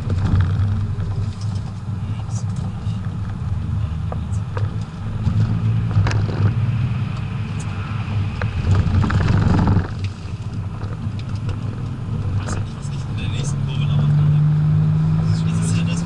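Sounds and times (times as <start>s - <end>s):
diesel engine pulling hard: 0.0s - 16.0s
tyre and road noise: 0.0s - 16.0s.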